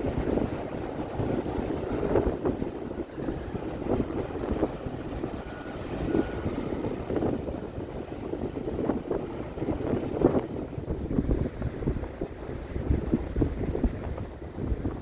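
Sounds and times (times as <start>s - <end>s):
gusty wind on microphone: 0.0s - 15.0s.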